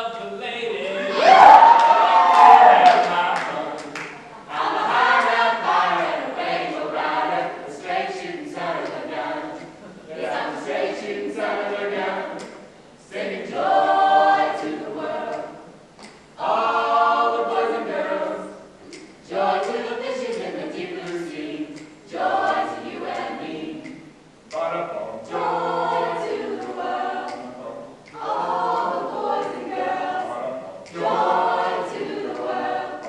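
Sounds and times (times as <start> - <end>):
a cappella group singing: 0.0 - 33.0.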